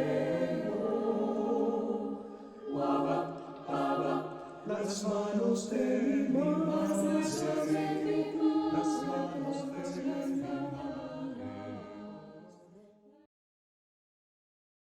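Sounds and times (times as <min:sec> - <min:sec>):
choir singing: 0:00.0 - 0:13.1.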